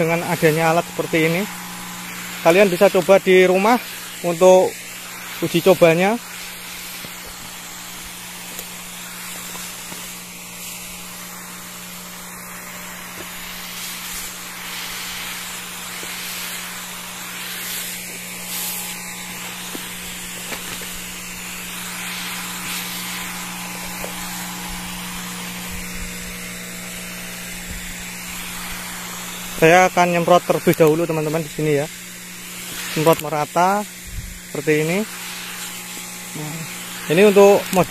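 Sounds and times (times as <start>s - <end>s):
electric pump humming: 0.0s - 37.9s
hiss of fine spray: 0.0s - 37.9s.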